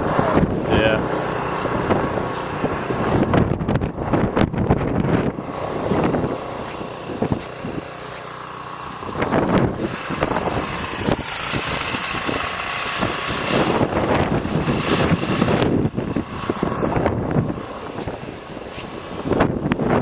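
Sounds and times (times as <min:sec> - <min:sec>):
wind gusting against microphone: 0:00.0 - 0:20.0.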